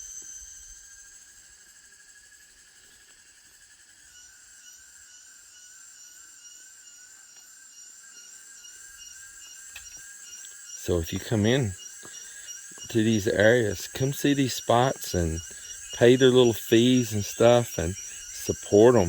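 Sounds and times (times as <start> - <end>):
insects droning in chorus: 0.0 - 19.0.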